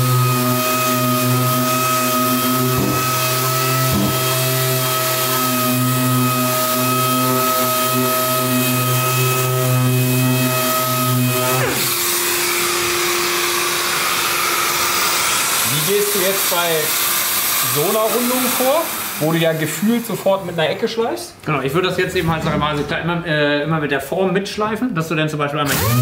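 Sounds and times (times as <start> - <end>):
sander spinning down: 0.0 - 20.5, 25.6 - 26.0
random orbital sander running: 0.0 - 20.6, 25.7 - 26.0.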